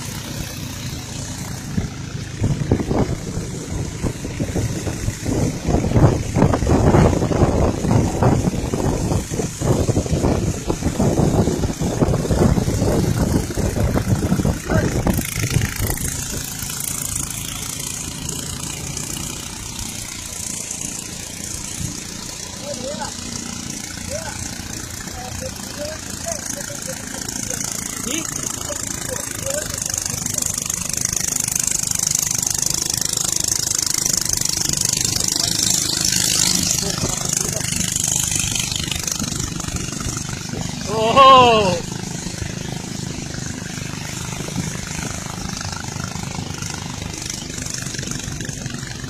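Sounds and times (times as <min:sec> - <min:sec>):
motorboat engine running: 0:00.0 - 0:49.0
water and wind rushing: 0:00.0 - 0:49.0.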